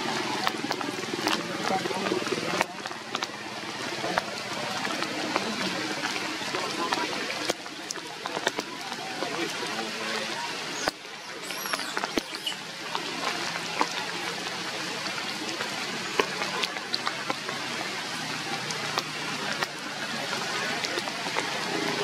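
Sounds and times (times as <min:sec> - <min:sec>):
rain on foliage: 0:00.0 - 0:22.0
sharp drips and ticks: 0:00.0 - 0:22.0.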